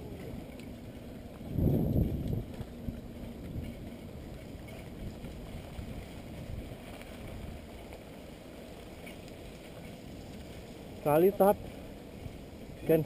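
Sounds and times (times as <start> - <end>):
bike rumbling over dirt trail: 0.0 - 13.0
wind buffeting microphone: 0.0 - 13.0.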